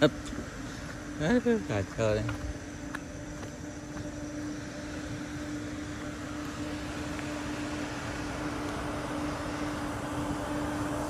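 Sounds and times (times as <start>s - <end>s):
car engine hum: 0.0s - 11.0s.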